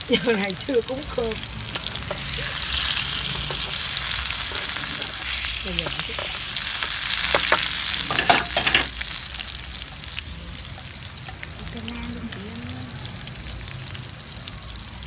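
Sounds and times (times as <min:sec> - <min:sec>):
tofu sizzling in hot oil: 0:00.0 - 0:15.0.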